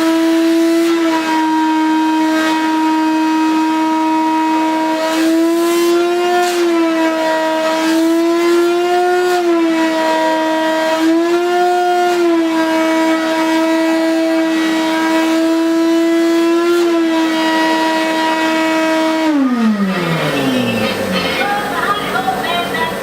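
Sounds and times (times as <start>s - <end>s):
shop vacuum running: 0.0s - 23.0s.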